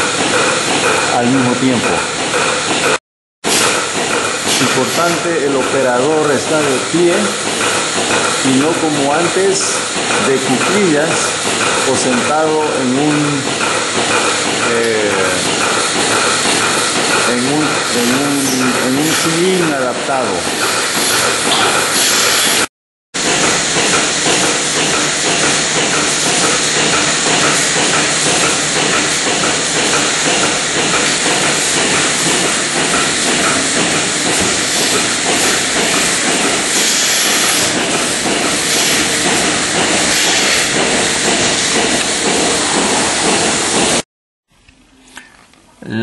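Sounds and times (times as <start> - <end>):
milking machine hissing and pulsing: 0.0 - 44.0.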